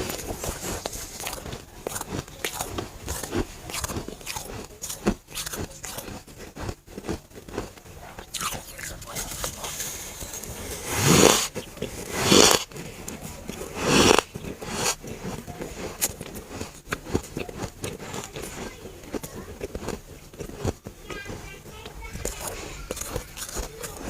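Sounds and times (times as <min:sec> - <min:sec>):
loud bites crunching frost: 0:00.0 - 0:21.4
chewing with small crunches: 0:00.0 - 0:24.0.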